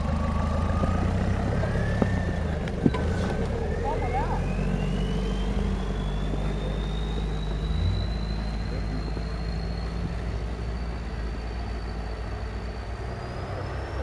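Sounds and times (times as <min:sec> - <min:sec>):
truck engine low drone: 0:00.0 - 0:14.0.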